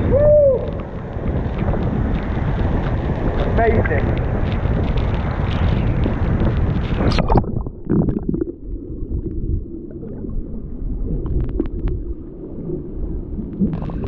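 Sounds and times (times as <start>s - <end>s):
muffled rumble with gurgles: 0.0s - 14.0s.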